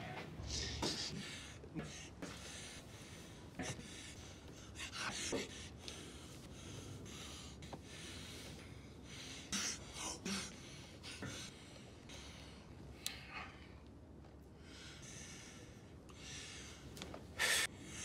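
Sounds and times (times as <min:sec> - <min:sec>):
room tone hiss: 0:00.0 - 0:18.0
man breathing sharply: 0:00.4 - 0:13.6, 0:14.6 - 0:18.0.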